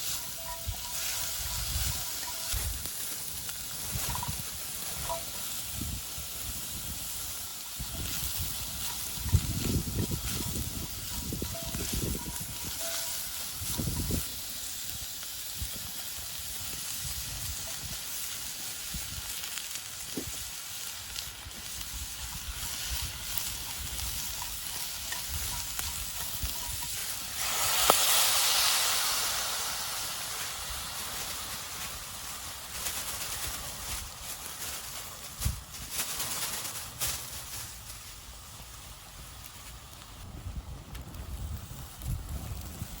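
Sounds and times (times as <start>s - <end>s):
food sizzling in a pot: 0.0s - 43.0s.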